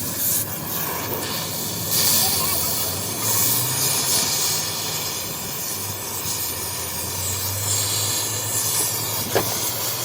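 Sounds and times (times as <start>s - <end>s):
steady hissing: 0.0s - 10.0s.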